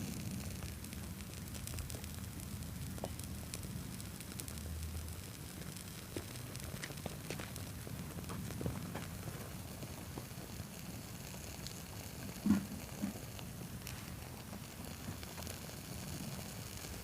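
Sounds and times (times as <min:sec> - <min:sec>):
prawn crackers crackling and popping: 0:00.0 - 0:17.0.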